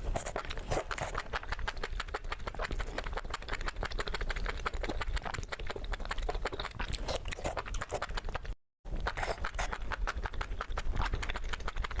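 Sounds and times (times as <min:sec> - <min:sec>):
crunching and chewing food: 0:00.0 - 0:12.0.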